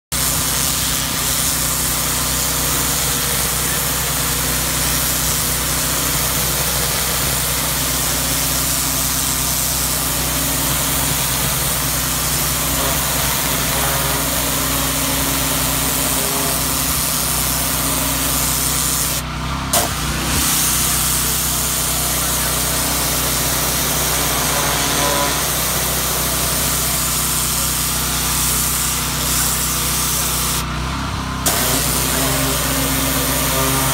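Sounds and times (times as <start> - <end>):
pressure washer spraying hull: 0.1 - 30.7, 31.4 - 33.9.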